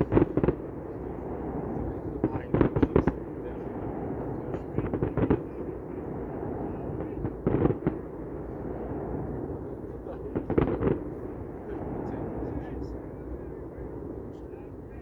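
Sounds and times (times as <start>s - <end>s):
fireworks banging: 0.0s - 12.5s
crowd murmur: 0.0s - 15.0s.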